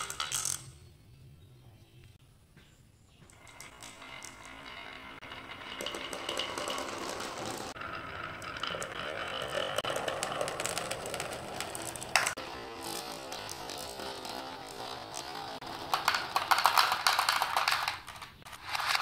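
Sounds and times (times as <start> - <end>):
glass marbles rolling and clicking: 0.0 - 0.8, 3.2 - 19.0.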